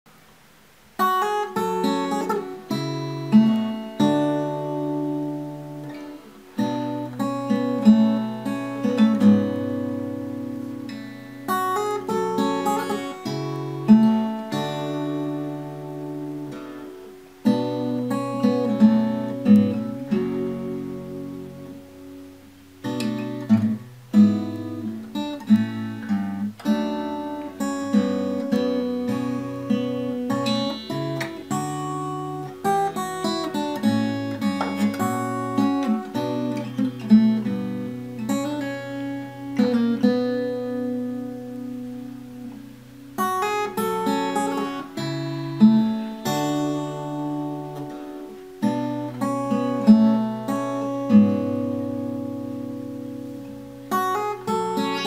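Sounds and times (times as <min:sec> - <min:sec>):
acoustic guitar chords: 0:00.1 - 0:55.0.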